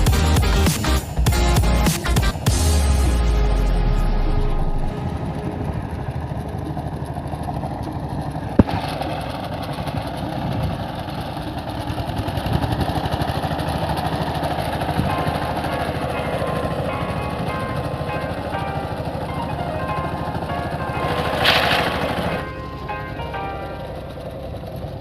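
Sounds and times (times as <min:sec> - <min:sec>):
small engine running: 0:00.0 - 0:25.0.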